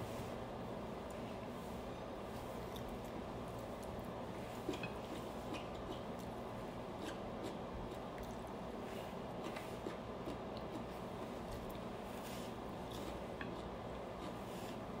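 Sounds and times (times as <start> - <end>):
low room hum: 0.0 - 15.0
person chewing noodles: 2.5 - 15.0.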